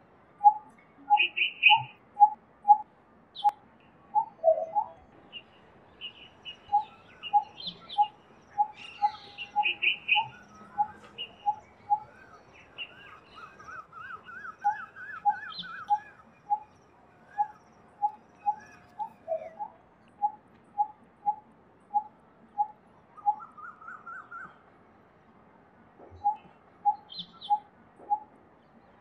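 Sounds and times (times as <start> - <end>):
bird trilling song: 0.4 - 24.6, 26.1 - 29.0.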